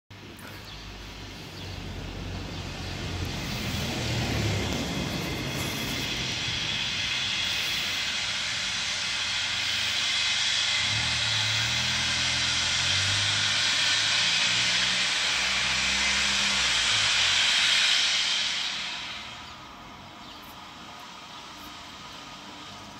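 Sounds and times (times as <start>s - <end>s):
low hum: 0.1s - 22.9s
steam locomotive hissing steam: 0.1s - 22.9s.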